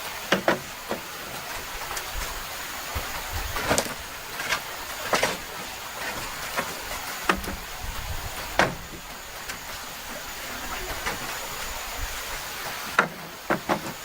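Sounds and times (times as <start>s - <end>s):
mountain stream rushing: 0.0s - 14.0s.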